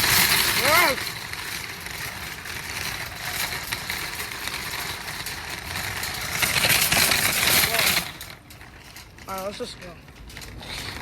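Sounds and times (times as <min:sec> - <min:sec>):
shopping cart rattling over pavement: 0:00.0 - 0:11.0.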